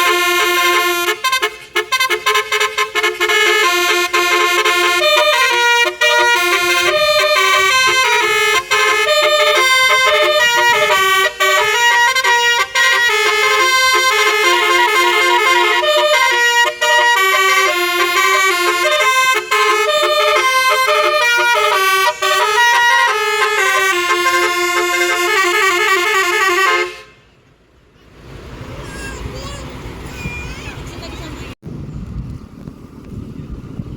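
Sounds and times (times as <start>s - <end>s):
multi-tone bus horn melody: 0.0s - 27.3s.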